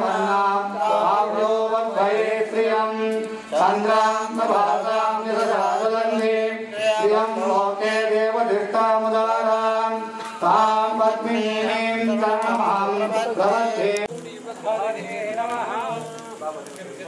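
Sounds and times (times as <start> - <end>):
men chanting in unison: 0.0 - 14.1.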